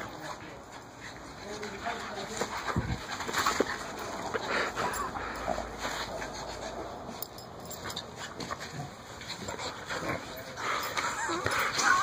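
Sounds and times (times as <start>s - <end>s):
dogs growling and yapping: 0.0s - 12.0s
dogs scuffling: 0.0s - 12.0s.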